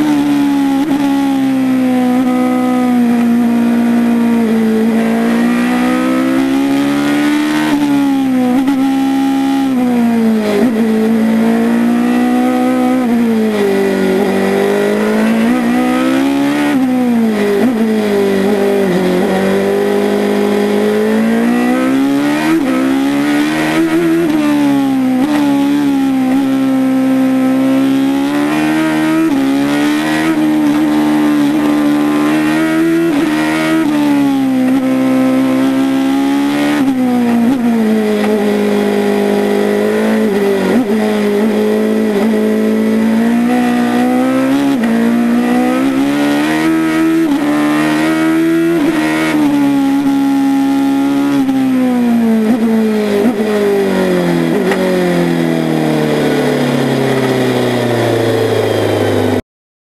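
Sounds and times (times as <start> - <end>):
race car engine revving: 0.0 - 59.4.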